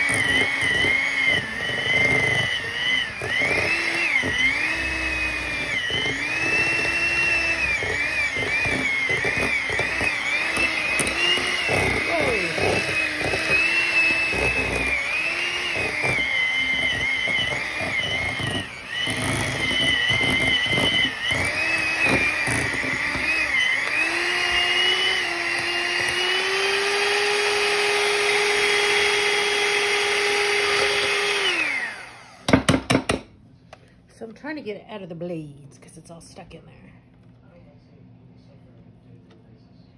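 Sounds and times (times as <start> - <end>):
electric hand mixer whining: 0.0 - 32.8
mixer knocking: 0.0 - 33.3.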